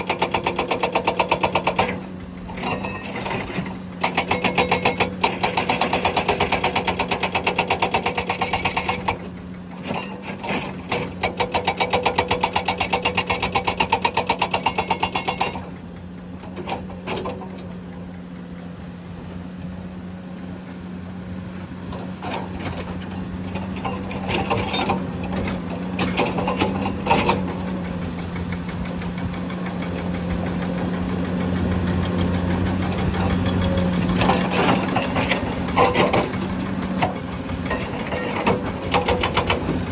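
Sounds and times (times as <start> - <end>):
hydraulic breaker hammering rock: 0.0 - 17.6, 22.0 - 39.9
excavator diesel engine running: 0.0 - 39.9.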